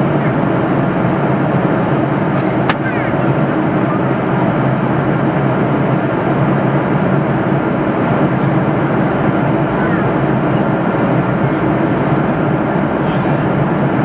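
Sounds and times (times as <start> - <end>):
jet engine drone in cabin: 0.0 - 14.0.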